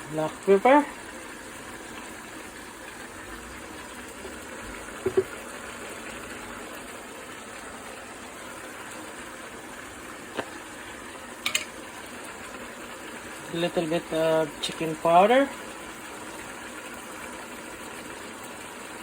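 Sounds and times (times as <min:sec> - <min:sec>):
curry bubbling in a pot: 0:00.0 - 0:19.0.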